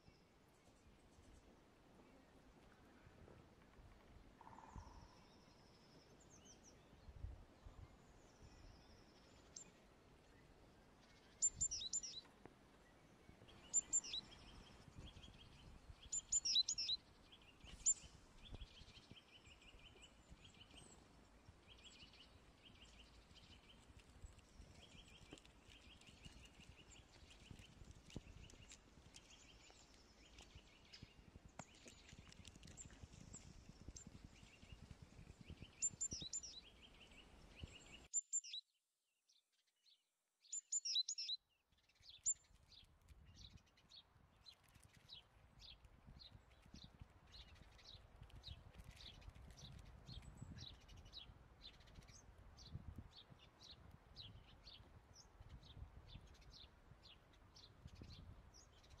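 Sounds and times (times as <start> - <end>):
songbirds chirping: 0.0 - 38.6, 39.3 - 59.0.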